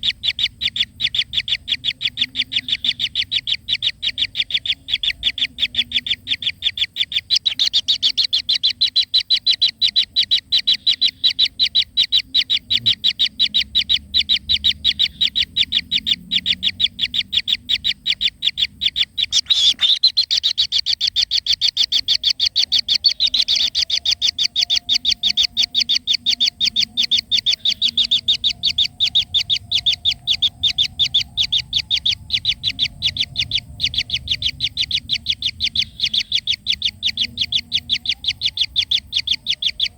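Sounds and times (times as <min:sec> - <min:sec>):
rapid high-pitched chirps: 0:00.0 - 0:39.9.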